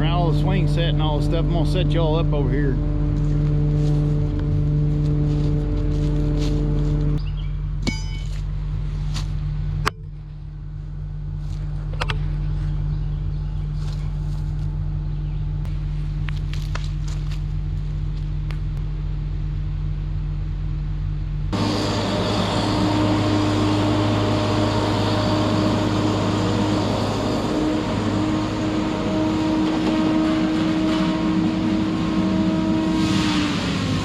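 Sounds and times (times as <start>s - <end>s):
machine humming: 0.0s - 16.3s, 17.4s - 34.0s
diesel engine running: 0.0s - 34.0s.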